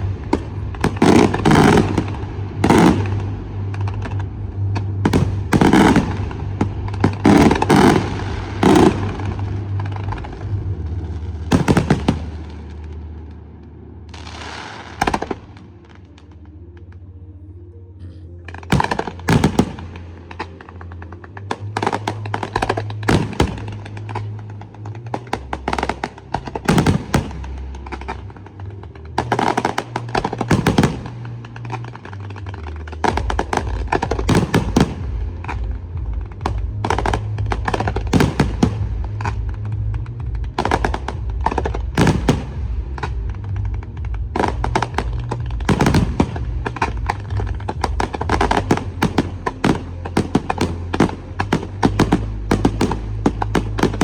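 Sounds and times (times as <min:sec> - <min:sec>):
firework shells bursting: 0:00.0 - 0:10.6, 0:18.5 - 0:28.6, 0:29.2 - 0:54.0
music with deep bass: 0:00.0 - 0:54.0.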